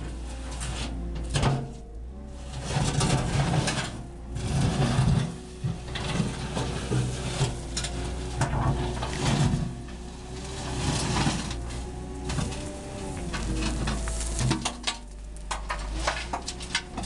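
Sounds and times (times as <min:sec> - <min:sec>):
bucket scraping and cracking: 0:00.0 - 0:17.0
diesel engine working under load: 0:00.0 - 0:17.0.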